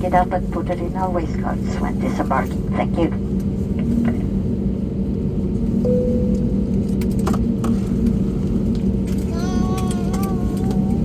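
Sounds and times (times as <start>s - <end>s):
aircraft cabin rumble and hum: 0.0s - 11.0s.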